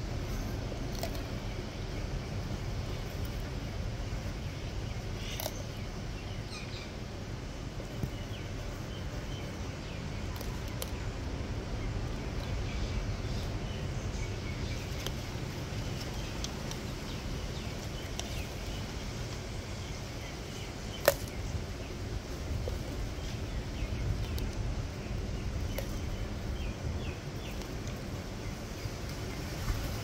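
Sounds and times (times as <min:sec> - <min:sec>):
steady low rumble: 0:00.0 - 0:30.0
tortoise chewing wet crunches: 0:00.0 - 0:30.0.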